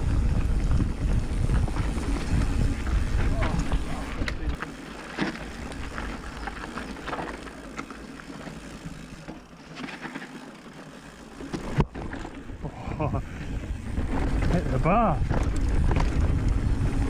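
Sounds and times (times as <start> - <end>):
bike tyres rumbling over dirt: 0.0 - 17.0.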